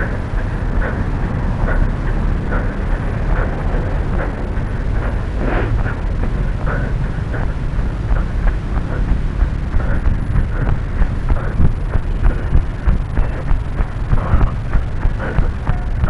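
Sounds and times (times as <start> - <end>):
wind rumble: 0.0 - 16.0.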